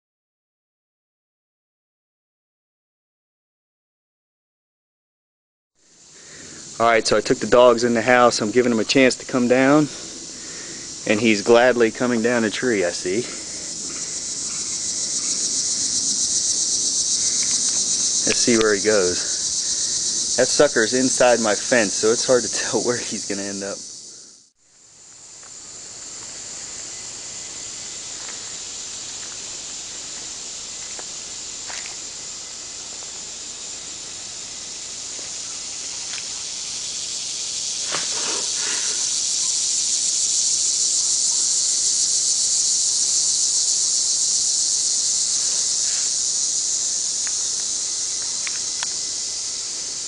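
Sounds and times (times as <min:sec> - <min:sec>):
insects shrilling: 0:05.8 - 0:50.0.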